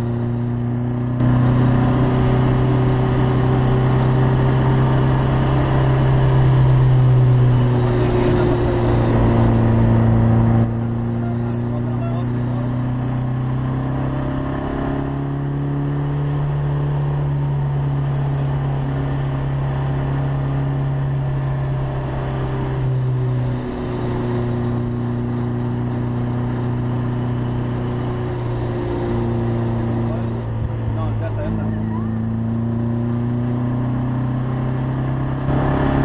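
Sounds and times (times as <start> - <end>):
car engine pulling at high revs: 0.0 - 36.0.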